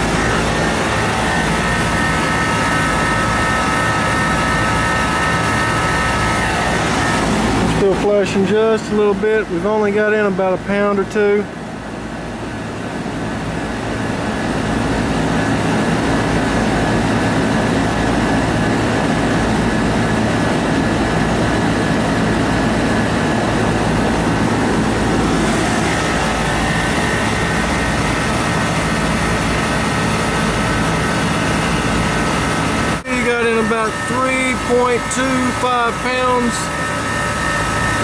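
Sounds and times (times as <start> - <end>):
fan rushing: 0.0 - 38.0
high steady whine: 0.0 - 38.0
low compressor hum: 0.0 - 38.0.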